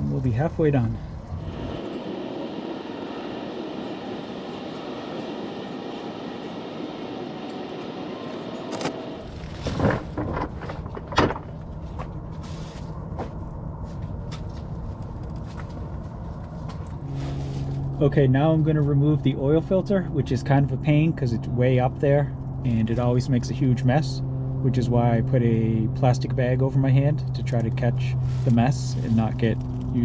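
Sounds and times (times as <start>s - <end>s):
low rumble: 0.0s - 27.4s.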